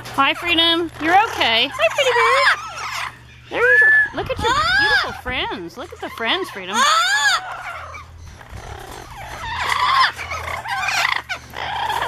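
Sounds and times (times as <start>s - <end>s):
parrots squawking: 0.2s - 12.0s.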